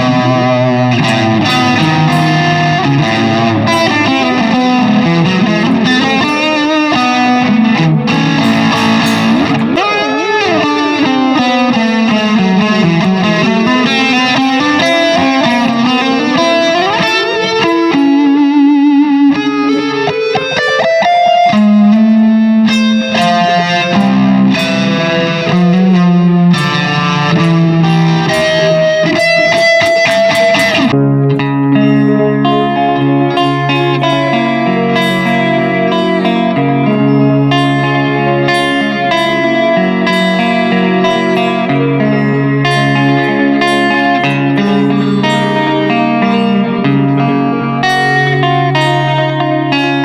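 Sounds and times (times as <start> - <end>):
electric guitar with delay echoes: 0.0 - 50.0.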